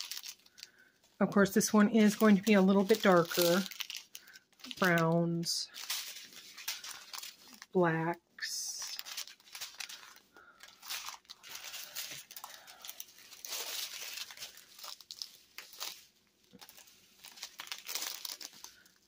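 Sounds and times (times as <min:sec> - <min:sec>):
plastic bags crinkling: 0:00.0 - 0:07.8, 0:08.4 - 0:19.0.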